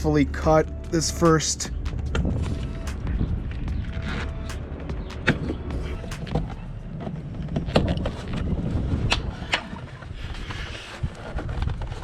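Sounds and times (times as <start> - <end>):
low rumble: 0.0 - 10.4.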